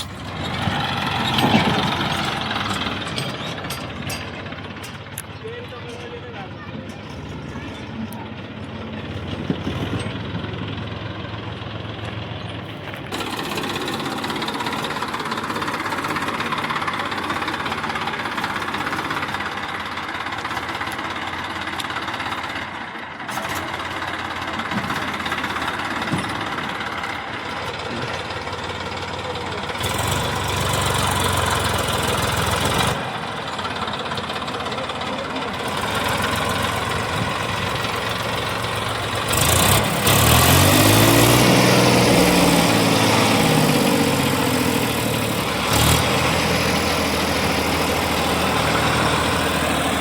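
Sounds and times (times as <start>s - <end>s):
diesel engines running: 0.0s - 50.0s
engine knocking: 0.0s - 50.0s.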